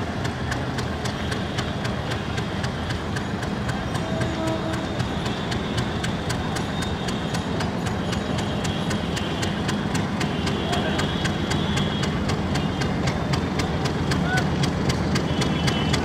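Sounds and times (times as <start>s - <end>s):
diesel locomotive engine rumbling: 0.0s - 16.0s
fast even ticking: 0.0s - 16.0s.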